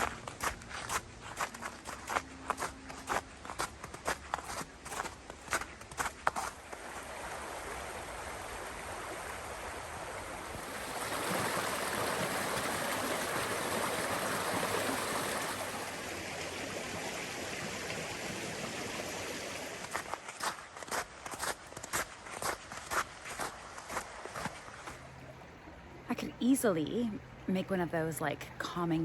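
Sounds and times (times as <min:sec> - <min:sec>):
creek water rushing: 0:00.0 - 0:20.6, 0:22.4 - 0:26.2.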